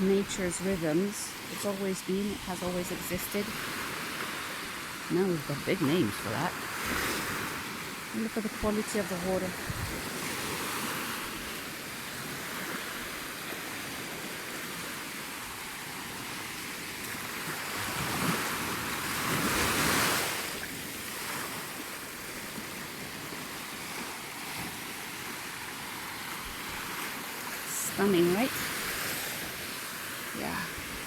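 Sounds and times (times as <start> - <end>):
sea waves washing onto beach: 0.0 - 31.0.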